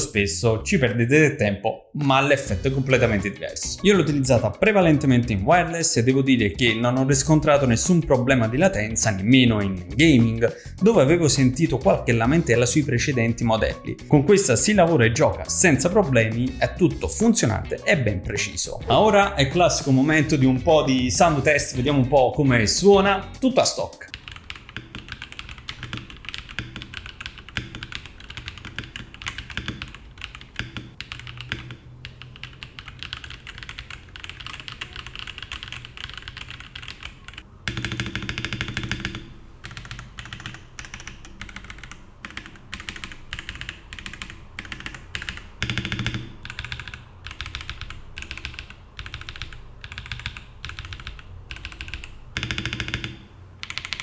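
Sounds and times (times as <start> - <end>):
mechanical keyboard typing: 2.8 - 54.0.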